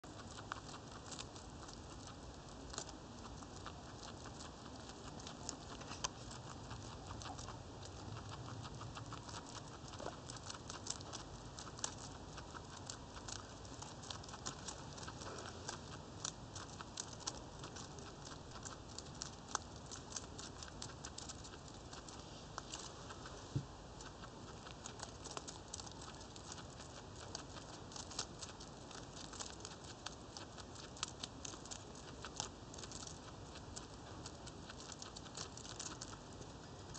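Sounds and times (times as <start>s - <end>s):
guinea pig chewing hay: 0.0s - 36.9s.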